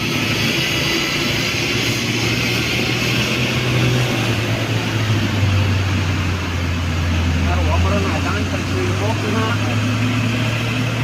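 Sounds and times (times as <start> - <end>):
bus diesel engine droning: 0.0 - 11.0
hiss of tyres and air: 0.0 - 11.0.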